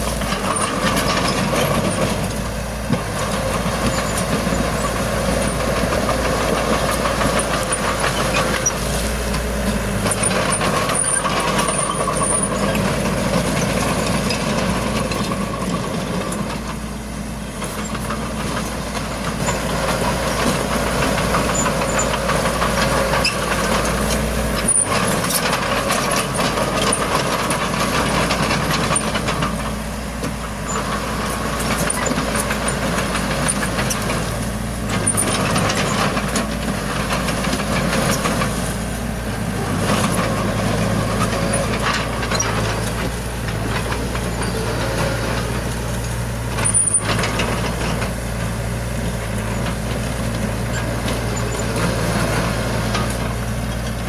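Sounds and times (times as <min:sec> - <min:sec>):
heavy diesel machinery working: 0:00.0 - 0:54.0.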